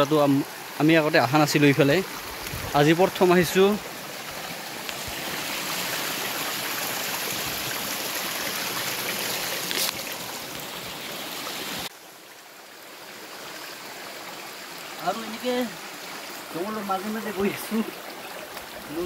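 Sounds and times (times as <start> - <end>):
stream flowing over stones: 0.0 - 19.0.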